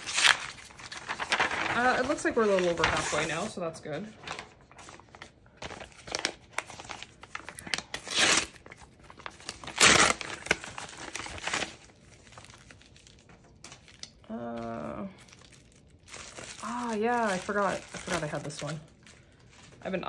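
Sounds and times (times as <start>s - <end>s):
packaging crinkling: 0.0s - 3.5s, 4.2s - 20.0s
packaging ripping: 0.0s - 3.5s, 4.2s - 19.8s.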